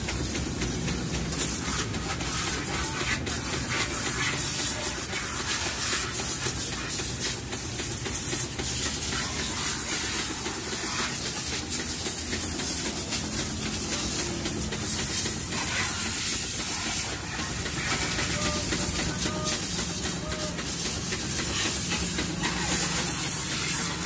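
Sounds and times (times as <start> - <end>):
pressure washer jet spraying: 0.0 - 24.0.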